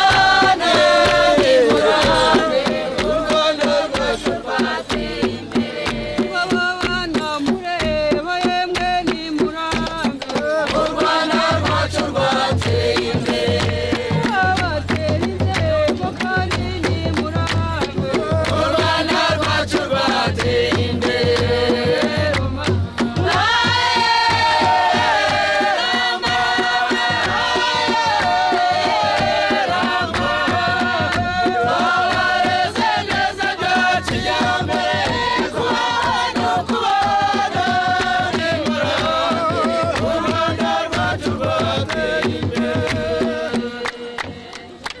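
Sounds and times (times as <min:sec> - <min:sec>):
women singing together: 0:00.0 - 0:45.0
wooden drum beating: 0:00.0 - 0:45.0.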